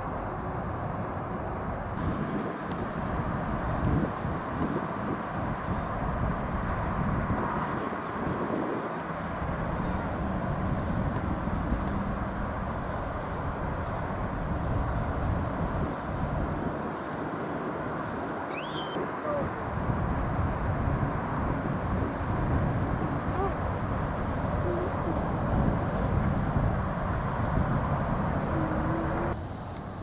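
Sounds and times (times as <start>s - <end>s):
distant traffic rumble: 0.0s - 30.0s.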